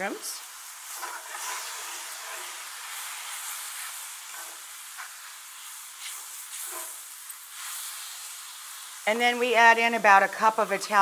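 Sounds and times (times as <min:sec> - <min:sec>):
mushrooms sizzling in skillet: 0:00.0 - 0:11.0.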